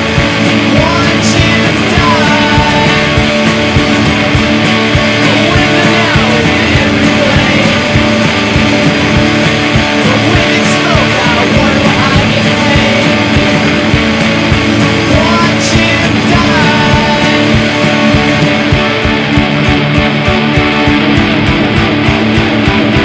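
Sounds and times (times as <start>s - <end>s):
loud rock music: 0.0s - 23.0s
steady drum beat: 0.0s - 23.0s.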